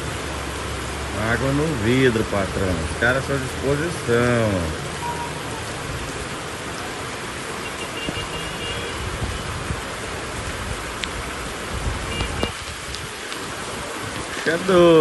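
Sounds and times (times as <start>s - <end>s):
torrential rain pouring: 0.0s - 15.0s.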